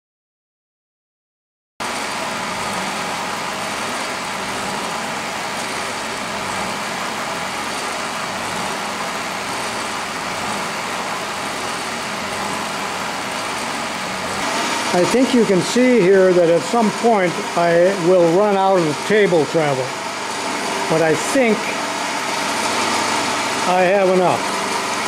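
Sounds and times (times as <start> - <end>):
milling machine cutting steel: 1.8 - 25.0.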